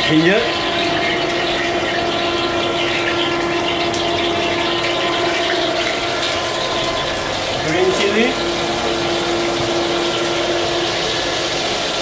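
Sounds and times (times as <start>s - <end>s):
constant hum: 0.0s - 12.0s.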